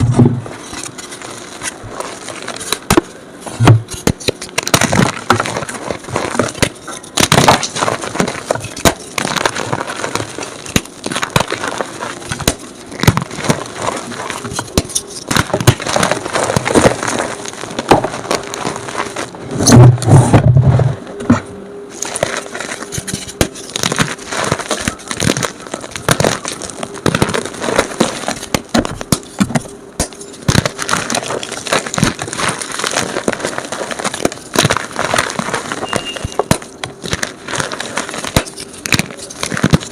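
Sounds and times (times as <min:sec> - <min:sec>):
chalk crunching by hand: 0:00.6 - 0:03.1, 0:04.0 - 0:19.9, 0:21.9 - 0:39.9.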